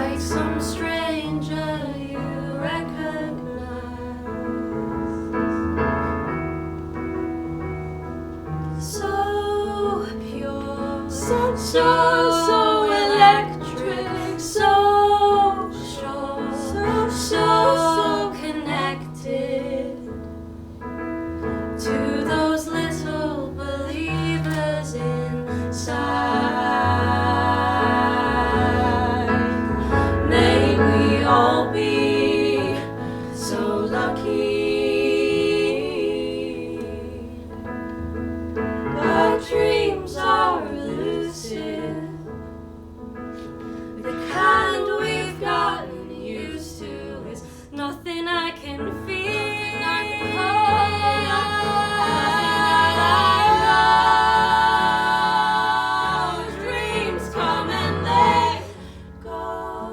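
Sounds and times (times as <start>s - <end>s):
women singing together: 0.0s - 6.4s, 8.5s - 42.7s, 43.4s - 59.9s
piano accompaniment: 0.0s - 59.9s.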